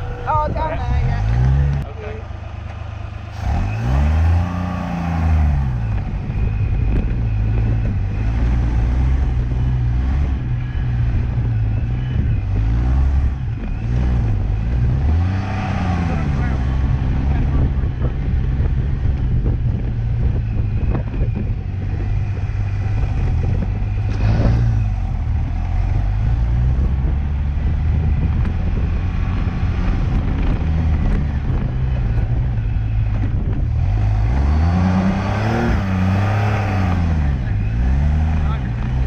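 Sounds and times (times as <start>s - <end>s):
car engine running: 0.0s - 39.0s
road and wind noise: 0.0s - 39.0s.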